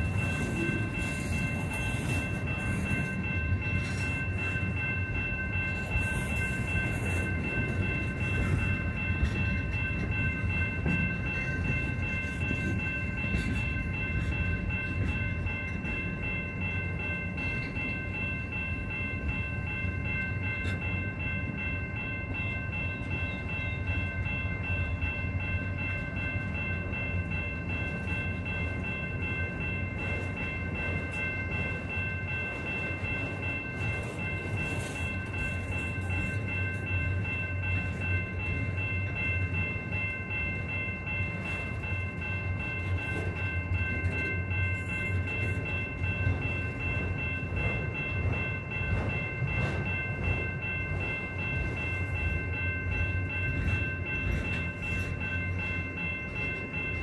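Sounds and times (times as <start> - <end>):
freight train rumbling past: 0.0 - 57.0
high-pitched ringing tone: 0.0 - 57.0.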